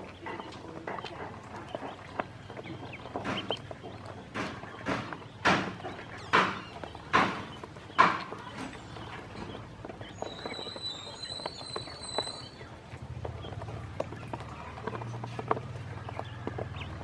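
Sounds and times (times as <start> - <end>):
ducklings splashing in water: 0.0 - 17.0.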